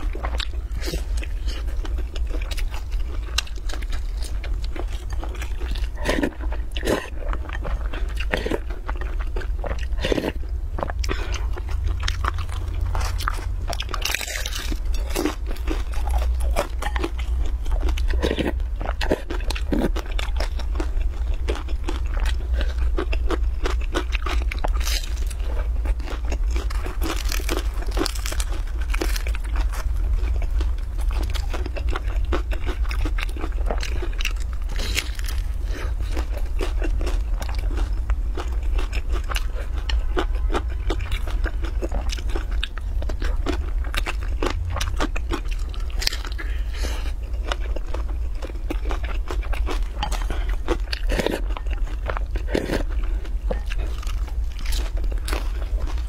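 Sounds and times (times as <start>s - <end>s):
crunchy chewing: 0.0s - 56.0s
steady low hum: 0.0s - 56.0s.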